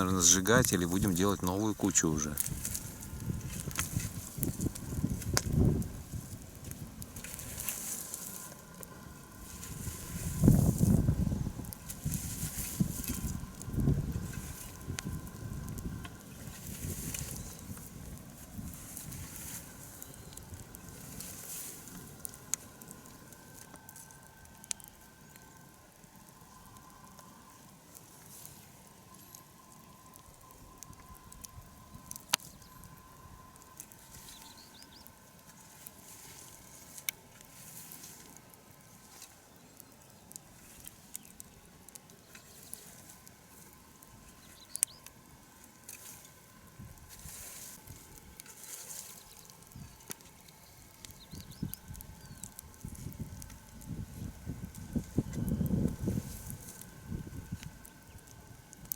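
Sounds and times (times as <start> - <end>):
bonfire crackling and popping: 0.0 - 58.9.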